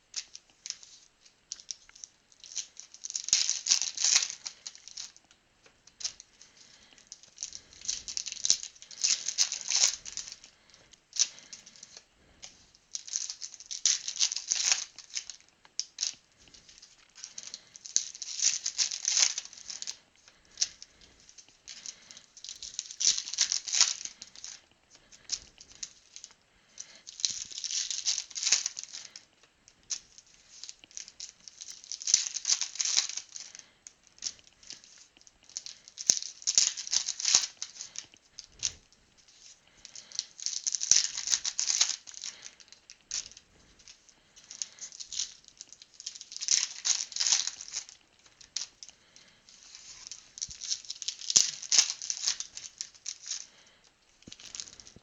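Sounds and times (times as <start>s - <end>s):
cards being shuffled: 0.2s - 53.7s.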